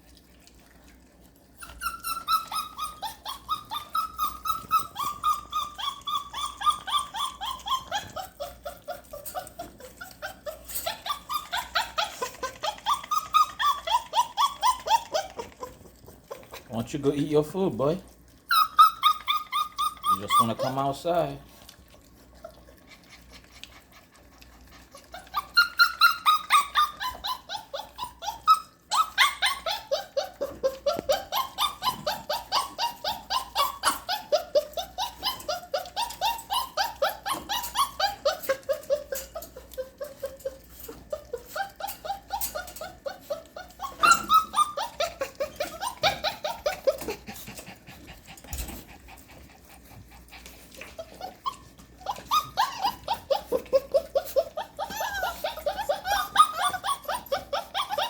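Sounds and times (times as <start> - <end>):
puppy whining and yelping: 0.0 - 58.0.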